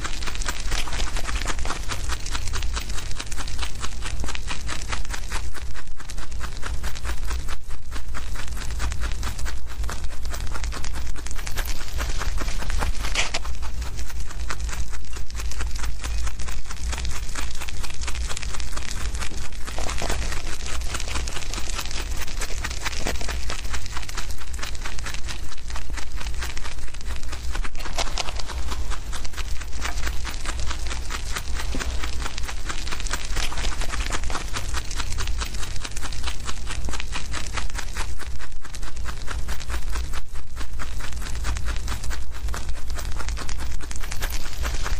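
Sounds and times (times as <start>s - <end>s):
low steady hum: 0.0s - 44.9s
rabbits chewing grass: 0.0s - 44.9s
grass leaves rustling: 8.0s - 40.1s, 40.8s - 44.9s.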